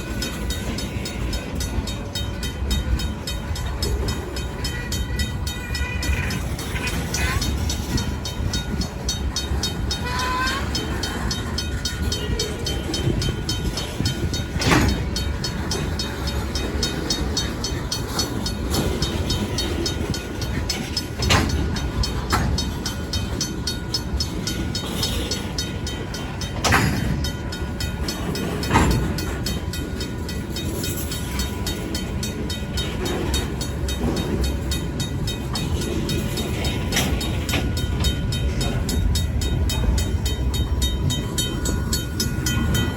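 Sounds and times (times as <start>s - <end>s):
crossing bell ticking rapidly: 0.0s - 42.9s
freight train wheels rumbling on rail: 0.0s - 42.9s
train cars clanking: 0.0s - 42.9s.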